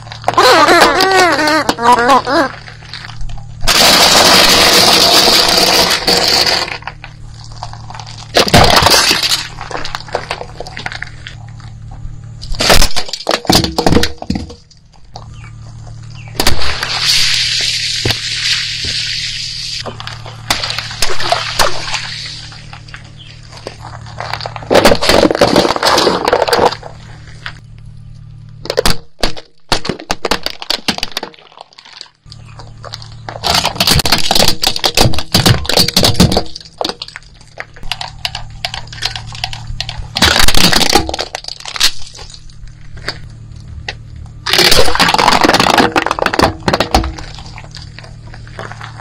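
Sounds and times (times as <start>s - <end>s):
tyre crushing plastic toys: 0.0s - 11.4s, 12.4s - 15.5s, 19.8s - 27.6s, 28.6s - 49.0s
steady low hum: 0.0s - 49.0s.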